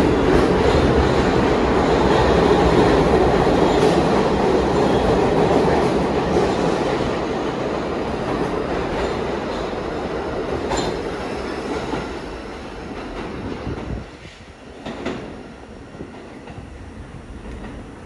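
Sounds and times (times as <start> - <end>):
subway train wheels on rails: 0.0 - 18.0.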